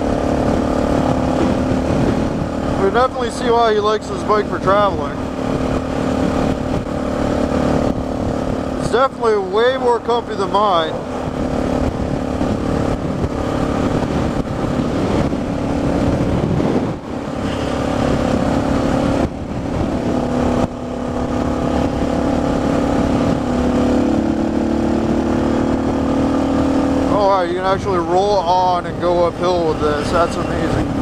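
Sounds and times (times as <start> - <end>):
motorcycle engine running: 0.0 - 31.0
wind rush: 0.0 - 31.0.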